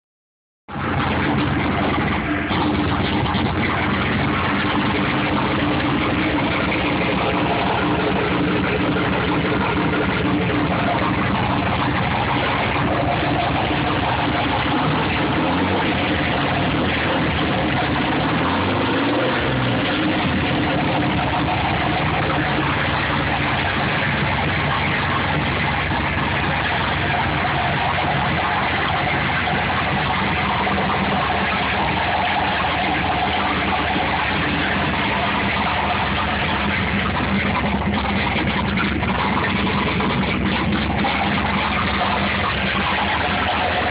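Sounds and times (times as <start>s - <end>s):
car engine idling: 0.7s - 43.9s.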